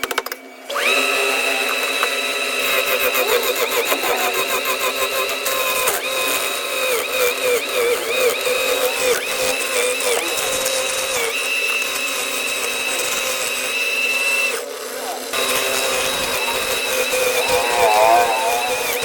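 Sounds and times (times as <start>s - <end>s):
machine motors whining: 0.2s - 19.0s.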